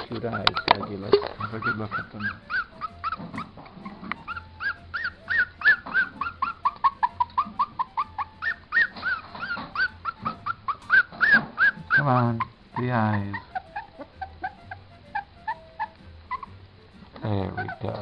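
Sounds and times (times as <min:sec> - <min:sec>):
puppy whimpering: 0:00.0 - 0:18.0.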